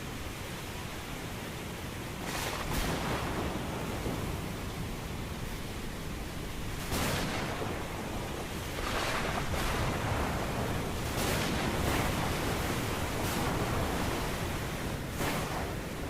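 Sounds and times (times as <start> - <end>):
breaking waves washing: 2.1 - 16.0.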